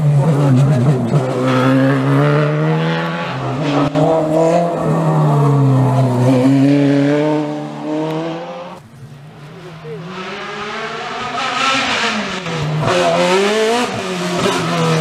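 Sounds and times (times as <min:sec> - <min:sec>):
race car engines at full throttle: 0:00.0 - 0:15.0.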